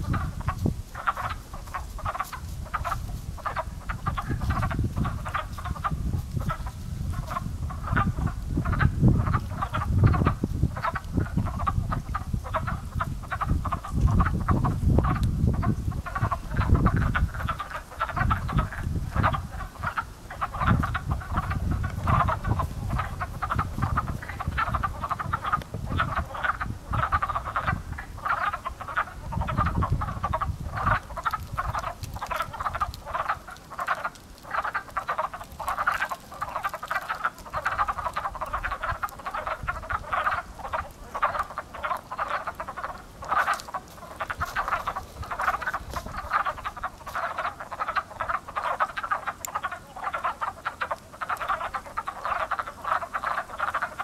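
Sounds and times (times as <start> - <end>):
chorus of frogs clucking: 0.0 - 54.0.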